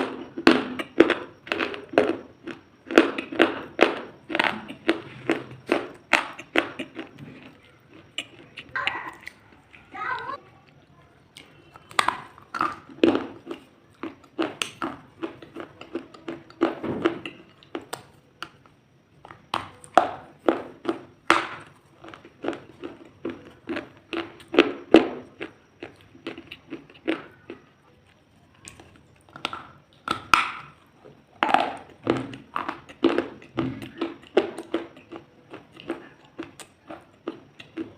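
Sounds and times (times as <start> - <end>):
crisp food crunching: 0.0 - 37.9.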